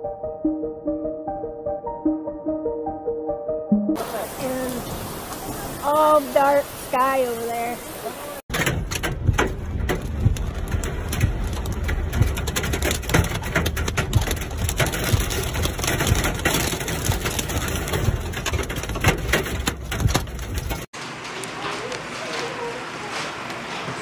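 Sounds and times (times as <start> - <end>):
rain and hail on car: 4.0 - 24.0
road and engine rumble: 4.0 - 24.0.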